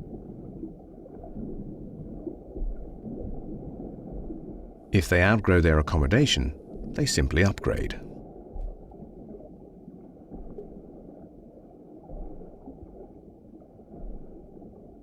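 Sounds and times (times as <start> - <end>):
muffled water wash: 0.0 - 15.0.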